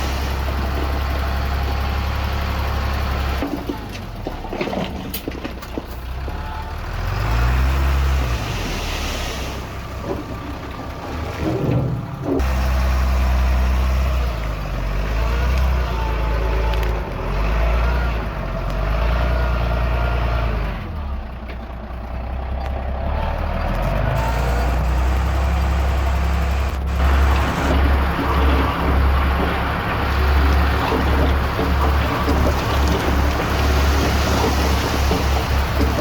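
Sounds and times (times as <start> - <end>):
heavy machinery diesel engine: 0.0 - 36.0.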